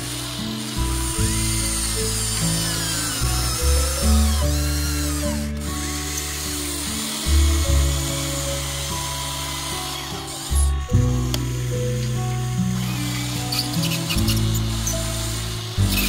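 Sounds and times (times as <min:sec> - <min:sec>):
background music: 0:00.0 - 0:16.0
toy excavator motors whining: 0:00.0 - 0:16.0.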